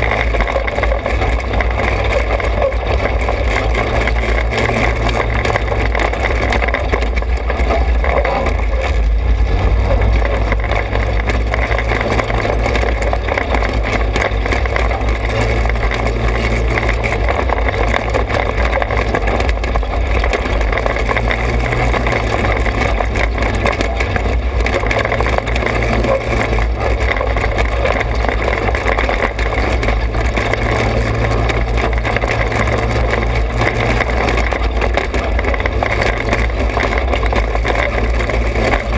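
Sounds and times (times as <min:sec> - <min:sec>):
low rumble and road noise: 0:00.0 - 0:38.9
small engine running: 0:00.0 - 0:38.9.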